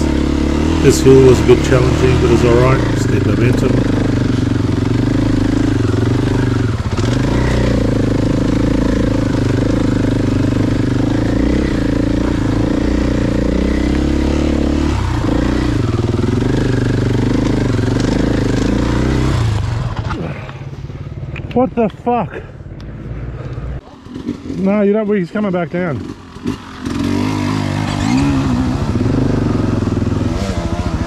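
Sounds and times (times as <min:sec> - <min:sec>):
motorcycle engine revving: 0:00.0 - 0:21.8, 0:23.8 - 0:31.0.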